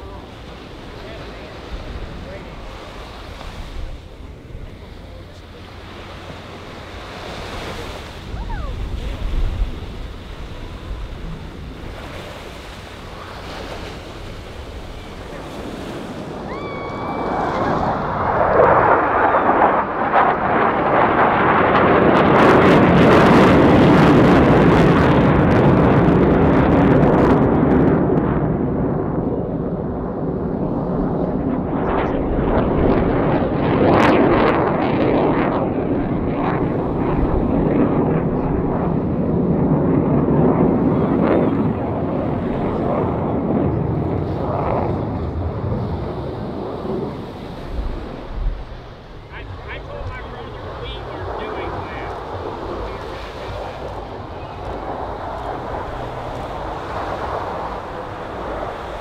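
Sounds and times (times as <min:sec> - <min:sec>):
surf rushing: 0:00.0 - 0:27.9, 0:29.7 - 0:59.0
jet roar: 0:00.0 - 0:59.0
wind buffeting microphone: 0:00.0 - 0:59.0.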